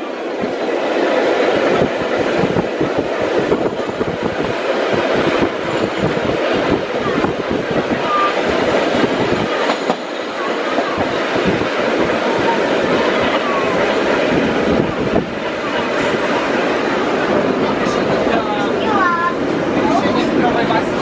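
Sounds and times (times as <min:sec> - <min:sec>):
subway car rumbling: 0:00.0 - 0:21.0.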